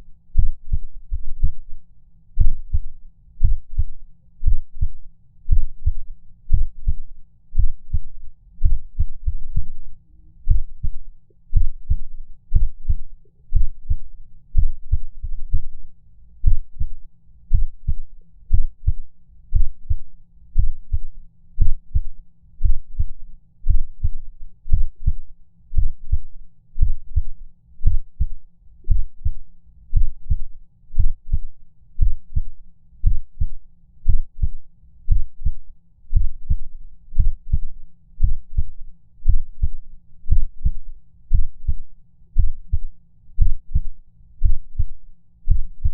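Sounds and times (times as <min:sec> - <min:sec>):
heartbeat thumps: 0:00.4 - 0:01.8, 0:02.4 - 0:15.8, 0:16.4 - 0:41.8, 0:42.4 - 0:45.9.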